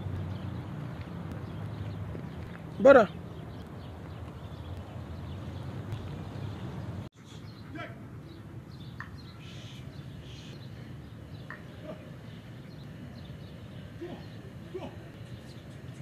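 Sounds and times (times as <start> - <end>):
bird chirps: 1.4 - 16.0.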